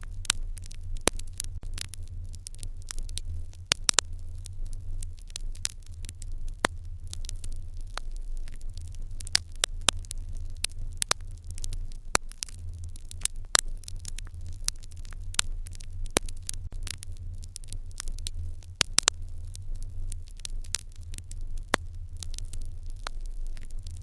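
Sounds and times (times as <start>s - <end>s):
sharp pops of fire: 0.0s - 24.0s
wood fire crackling: 0.0s - 24.0s.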